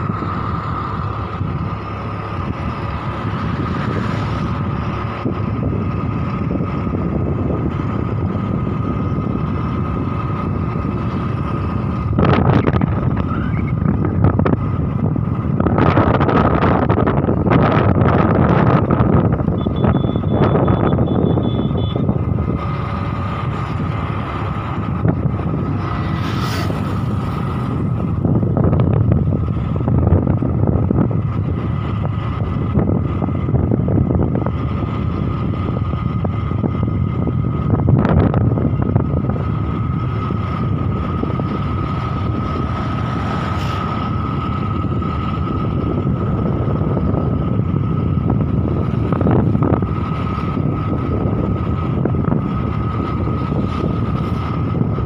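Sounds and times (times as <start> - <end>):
vehicle and tyre rumble: 0.0 - 55.0
wind buffeting microphone: 0.0 - 55.0.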